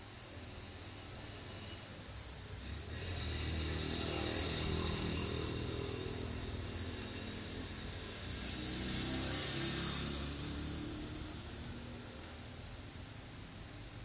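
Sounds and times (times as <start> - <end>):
vehicle engine running: 1.1 - 12.8.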